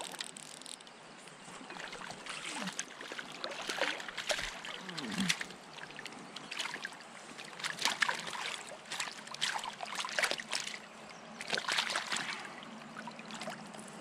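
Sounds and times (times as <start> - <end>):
stream flowing: 0.0 - 14.0
fish splashing water: 1.8 - 13.7.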